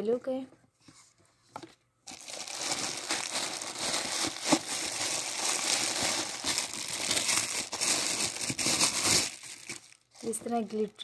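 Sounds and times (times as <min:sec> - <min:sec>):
plastic bag crinkling: 0:02.1 - 0:11.0.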